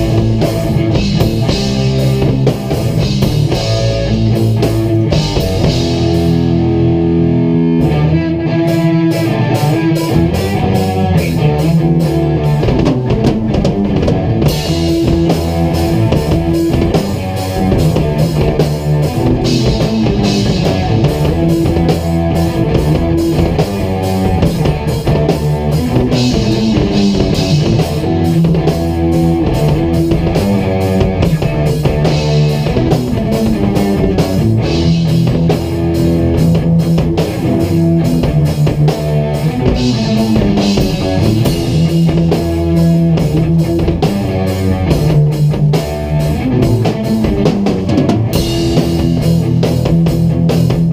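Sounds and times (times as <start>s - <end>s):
drum kit with cymbals: 0.0s - 50.9s
electric guitars: 0.0s - 50.9s.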